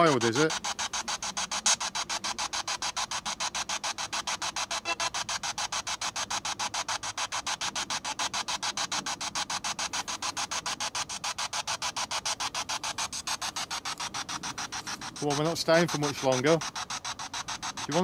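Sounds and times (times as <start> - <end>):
pulsing radio static: 0.0 - 18.0.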